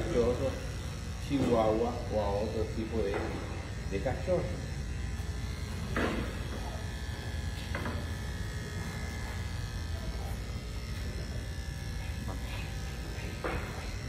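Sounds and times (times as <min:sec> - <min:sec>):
electric clipper buzzing: 0:00.0 - 0:14.0.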